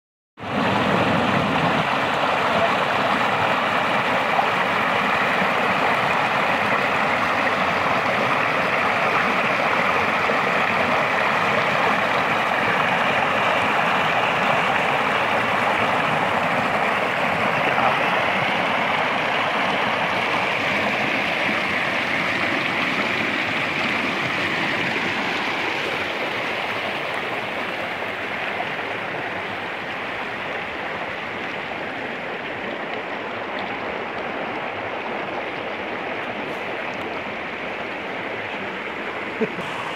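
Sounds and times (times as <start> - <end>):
stream rushing over stones: 0.4 - 39.9.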